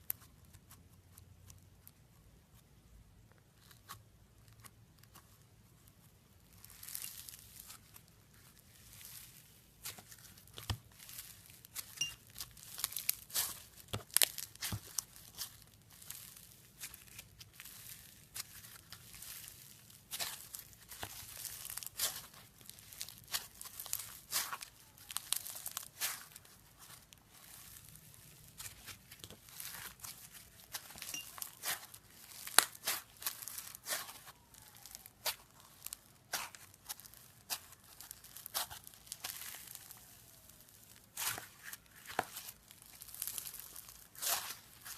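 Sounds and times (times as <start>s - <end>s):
slime crackling and popping: 6.0s - 44.9s.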